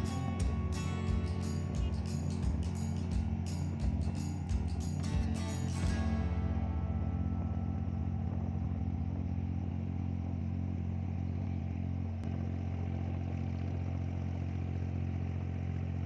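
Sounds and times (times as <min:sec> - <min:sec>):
boat diesel engine droning: 0:00.0 - 0:16.0.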